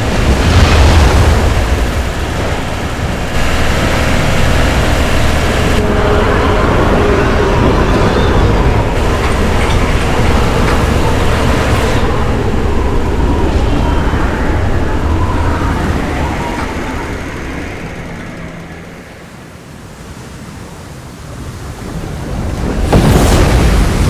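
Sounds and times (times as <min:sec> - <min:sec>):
heavy low rumble: 0:00.0 - 0:19.4
steady machine hum: 0:00.0 - 0:19.9
roar of wind and water: 0:00.0 - 0:24.0.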